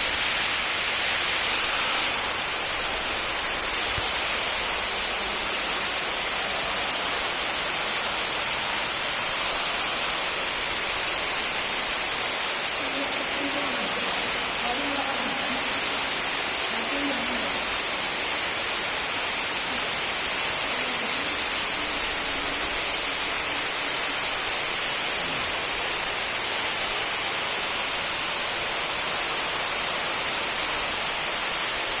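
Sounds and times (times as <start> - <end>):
waterfall rushing in a cave: 0.0 - 32.0.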